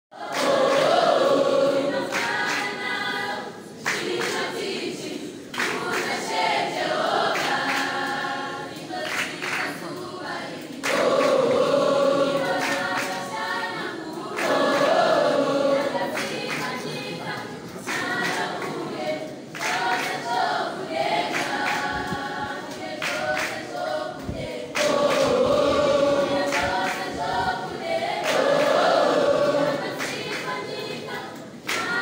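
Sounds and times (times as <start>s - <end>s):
choir singing a cappella: 0.1s - 32.0s.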